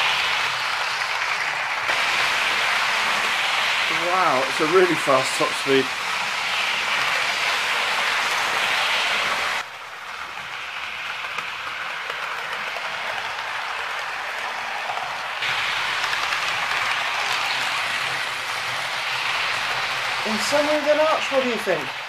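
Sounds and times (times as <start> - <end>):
model train motor whirring: 0.0 - 22.0.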